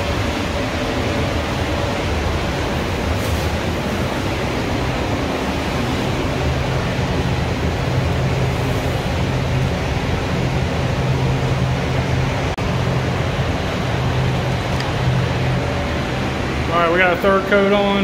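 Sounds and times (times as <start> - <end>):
low hum: 0.0 - 18.0
ventilation air rushing: 0.0 - 18.0.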